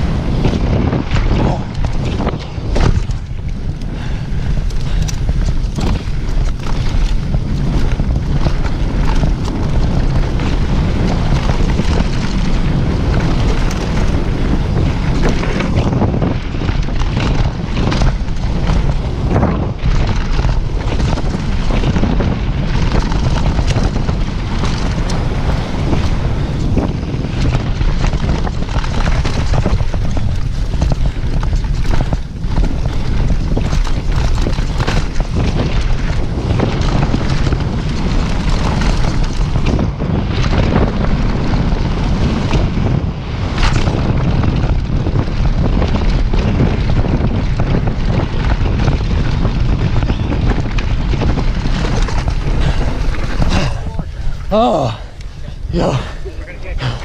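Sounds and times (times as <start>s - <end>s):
bike clattering over rough trail: 0.0s - 57.0s
wind buffeting microphone: 0.0s - 57.0s.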